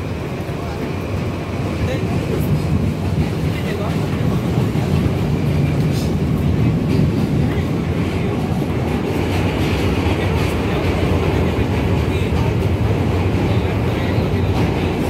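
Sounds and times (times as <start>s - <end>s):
subway train wheels rumbling on rails: 0.0s - 15.0s.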